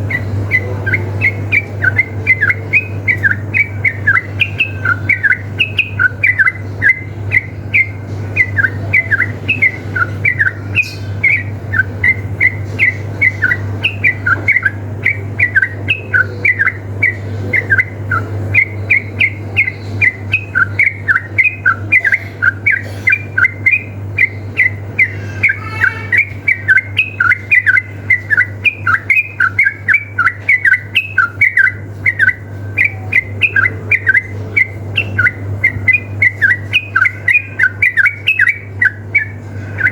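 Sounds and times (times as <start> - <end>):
bird singing bubbly chirps: 0.0 - 39.9.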